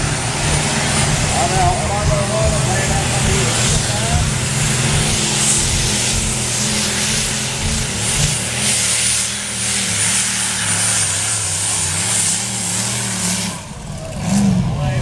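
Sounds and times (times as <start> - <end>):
high whine: 0.0 - 15.0
tractor engine running hard: 0.0 - 15.0.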